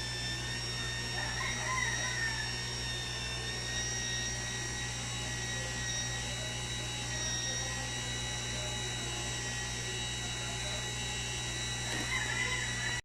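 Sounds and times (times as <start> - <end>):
washing machine motor whining: 0.0 - 13.0.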